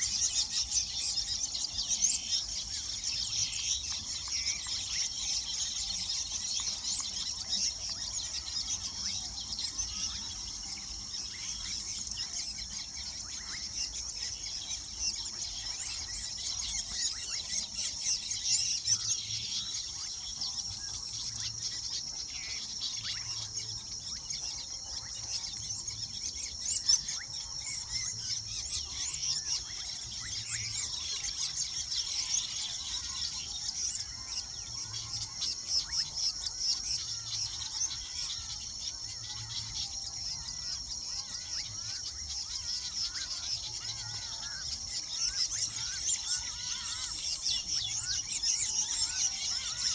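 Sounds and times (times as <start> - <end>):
weaver birds chattering: 0.0 - 49.9.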